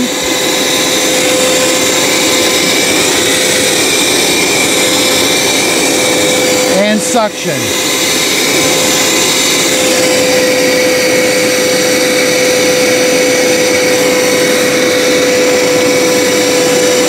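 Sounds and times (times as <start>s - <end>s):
carpet cleaner suction running: 0.0s - 17.0s.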